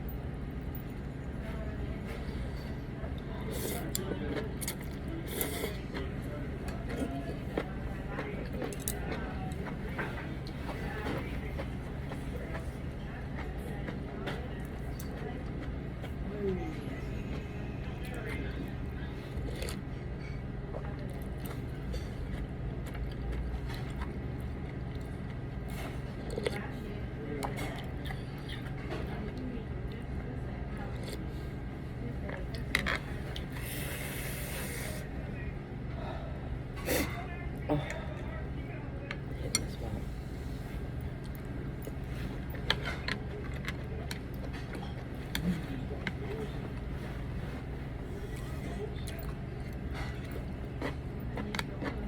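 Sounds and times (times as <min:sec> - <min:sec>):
low background hum: 0:00.0 - 0:52.0.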